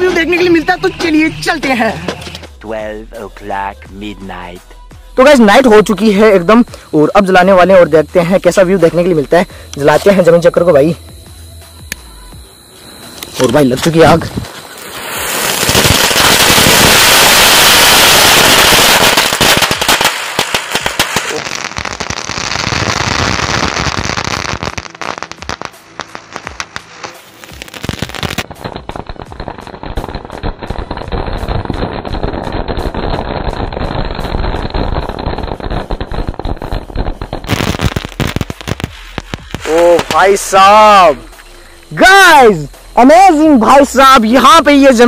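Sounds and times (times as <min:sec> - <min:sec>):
ground spinner firework hissing: 0:00.0 - 0:45.0
firecrackers crackling: 0:05.2 - 0:45.0.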